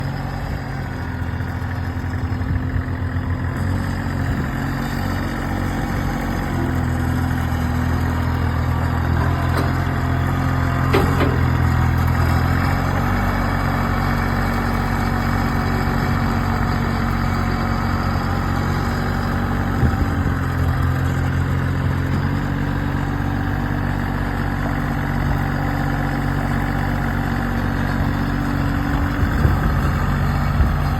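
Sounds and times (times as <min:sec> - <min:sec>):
diesel tractor engine idling: 0:00.0 - 0:30.9.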